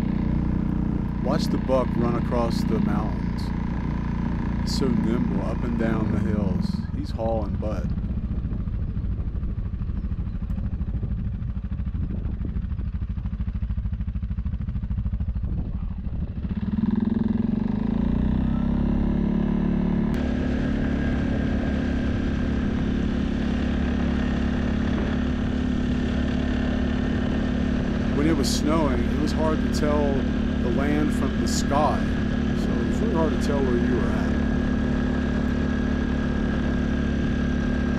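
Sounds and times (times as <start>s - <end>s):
off-road vehicle engine running: 0.0s - 37.9s.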